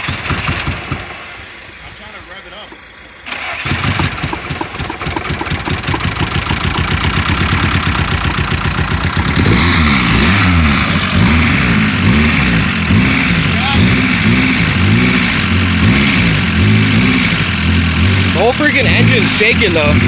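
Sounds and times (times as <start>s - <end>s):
car engine revving: 0.0s - 20.0s
car engine running rough: 0.0s - 20.0s.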